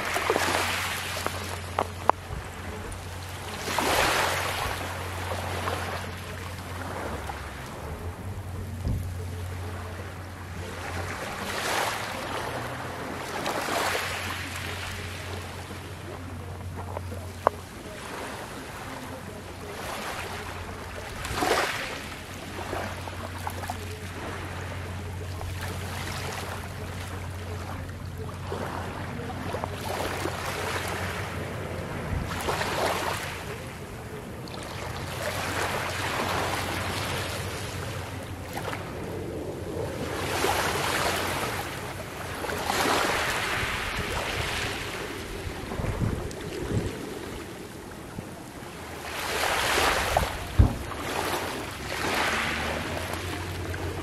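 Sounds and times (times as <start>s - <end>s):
gentle waves lapping on pebbles: 0.0s - 54.0s
steady low hum: 0.0s - 54.0s.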